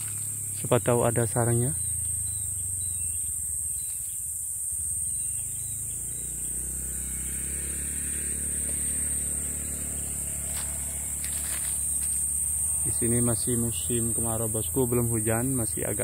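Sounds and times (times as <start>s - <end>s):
insects shrilling: 0.0s - 16.0s.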